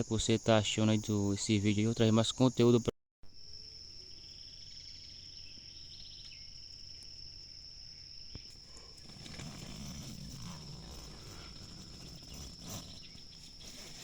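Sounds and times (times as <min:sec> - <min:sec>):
cricket high-pitched trill: 0:00.0 - 0:14.0
pulsing insect trill: 0:00.0 - 0:14.0.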